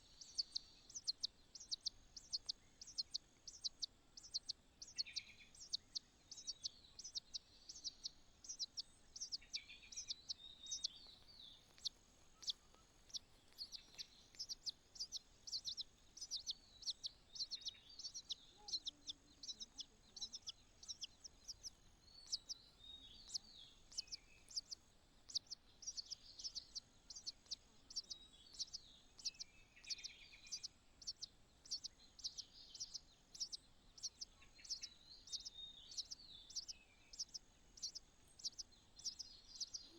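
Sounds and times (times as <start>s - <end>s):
nestling birds begging chirps: 0.0s - 39.9s.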